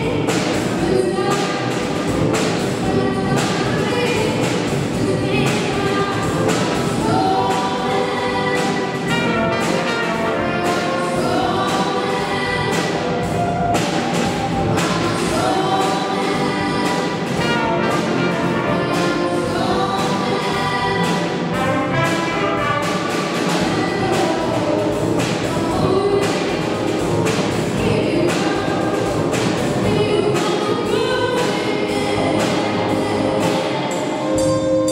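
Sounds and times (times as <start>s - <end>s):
live band playing: 0.0s - 34.9s
youth choir singing: 2.7s - 27.0s, 27.6s - 34.9s.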